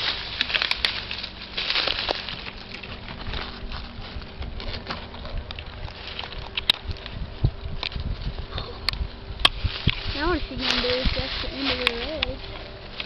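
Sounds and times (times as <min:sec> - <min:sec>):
dry leaves rustling and crackling: 0:00.0 - 0:13.0
faint low hum: 0:00.0 - 0:13.0.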